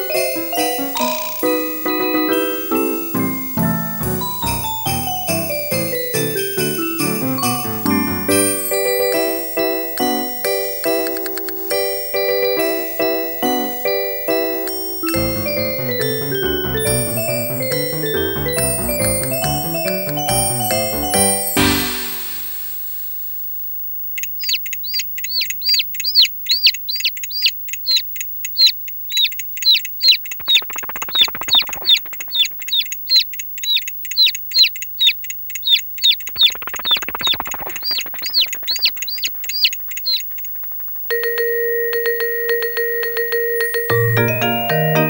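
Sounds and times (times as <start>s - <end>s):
toy bird chirping: 0.0s - 22.6s, 24.4s - 41.3s
steady tone with light ticking: 0.0s - 45.0s.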